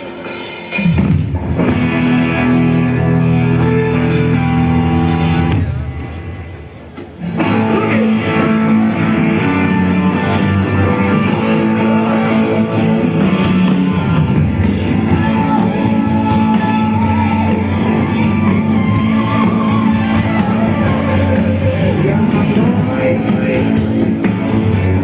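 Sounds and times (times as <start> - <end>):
electric guitar: 0.0 - 25.0
live rock band playing: 0.0 - 25.0.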